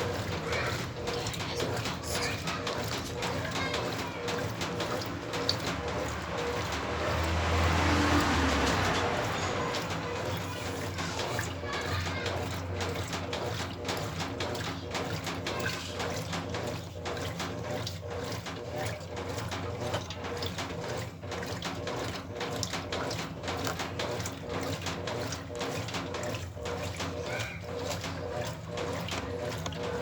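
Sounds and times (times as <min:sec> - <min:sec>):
washing machine motor hum: 0:00.0 - 0:30.0
water sloshing in washing machine: 0:00.0 - 0:30.0.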